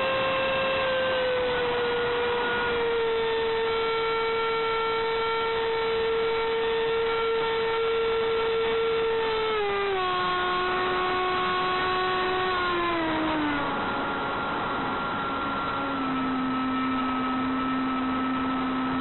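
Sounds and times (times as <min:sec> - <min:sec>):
electric ducted fan whining: 0:00.0 - 0:19.0.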